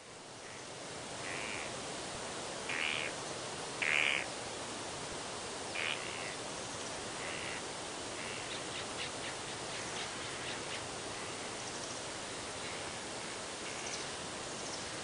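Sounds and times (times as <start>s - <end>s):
steady background hiss: 0.0s - 15.0s
birds calling: 0.4s - 1.8s, 2.7s - 4.4s, 5.6s - 15.0s.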